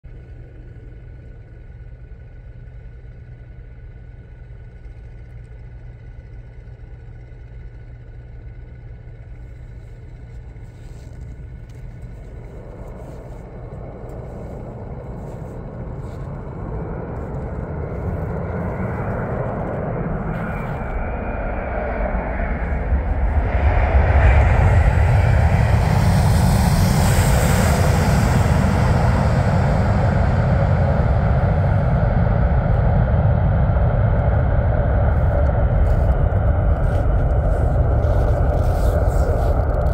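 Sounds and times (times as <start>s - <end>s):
jet engines rumbling and whining: 0.1s - 39.9s.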